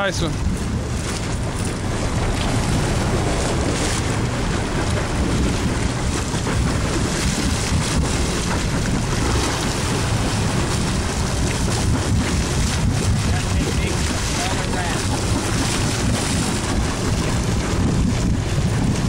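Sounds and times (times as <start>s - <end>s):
steady low rumble: 0.0s - 19.0s
water slapping against boat: 0.0s - 19.0s
wind buffeting microphone: 0.0s - 19.0s.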